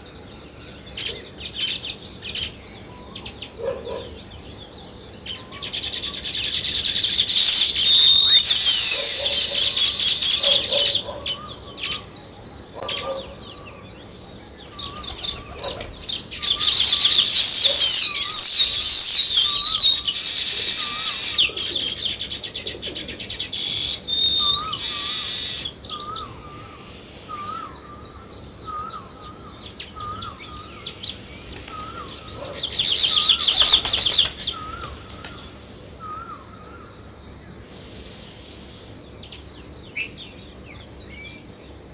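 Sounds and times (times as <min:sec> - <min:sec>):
small birds chattering: 0:00.0 - 0:41.9.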